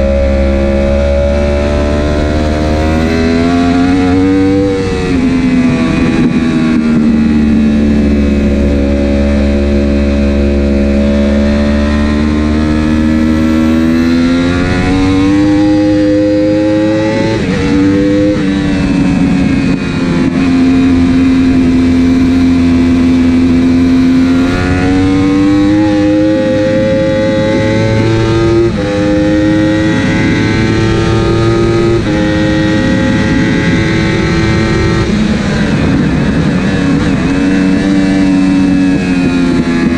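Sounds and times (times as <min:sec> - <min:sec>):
superbike engine revving: 0:00.0 - 0:39.9
wind rush: 0:00.0 - 0:39.9.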